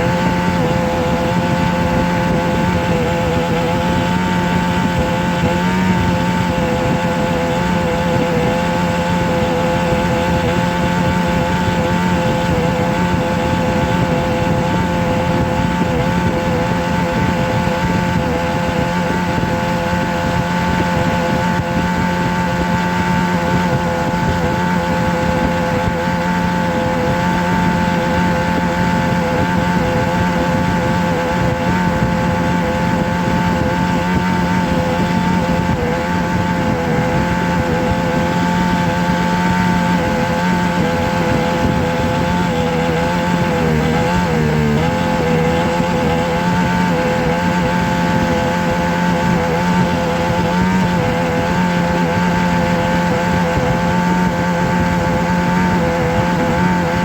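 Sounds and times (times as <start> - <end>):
motor drone with pitched tones: 0.0 - 57.0.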